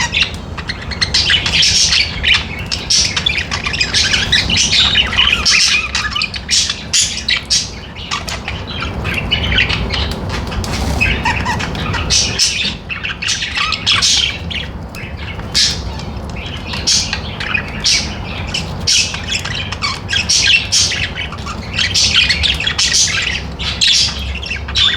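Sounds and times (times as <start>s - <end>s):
budgerigars chattering: 0.0s - 24.9s.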